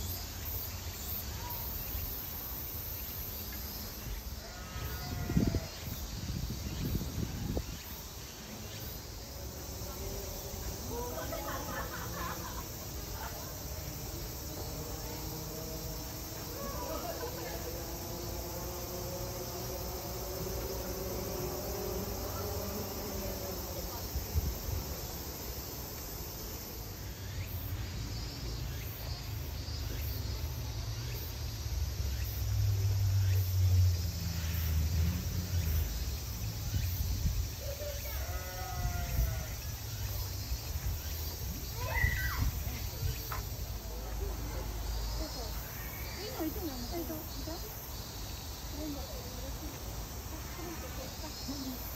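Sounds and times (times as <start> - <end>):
insect chirring: 0.0 - 51.9
outdoor background noise: 0.0 - 51.9.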